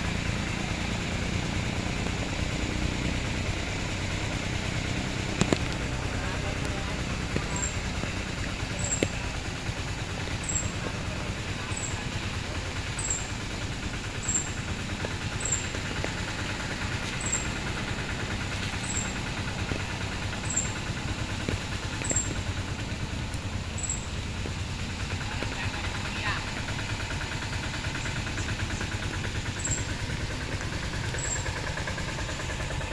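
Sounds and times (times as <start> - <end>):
vehicle engine running: 0.0 - 32.9.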